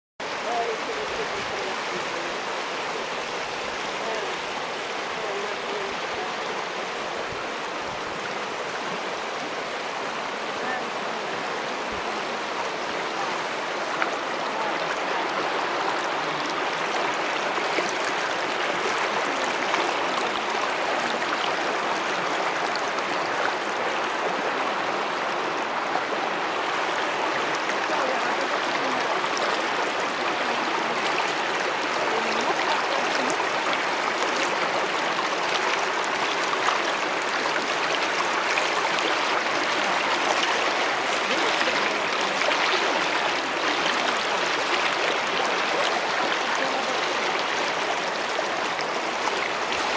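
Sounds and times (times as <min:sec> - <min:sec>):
river rushing over stones: 0:00.2 - 0:49.9.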